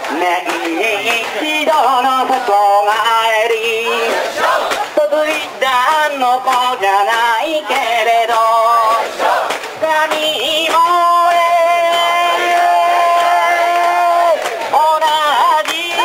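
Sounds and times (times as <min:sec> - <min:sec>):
song with sung vocals: 0:00.0 - 0:16.0.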